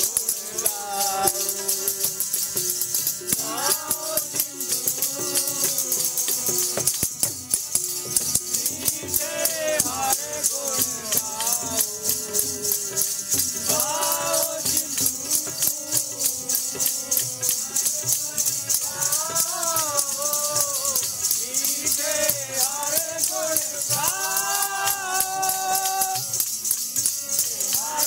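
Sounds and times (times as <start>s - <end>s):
jingling rattling percussion: 0.0s - 28.0s
voices singing devotional melody: 0.0s - 28.0s.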